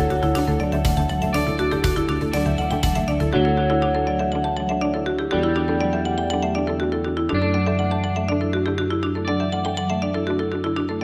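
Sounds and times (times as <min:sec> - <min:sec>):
music with ringing struck notes: 0:00.0 - 0:11.0.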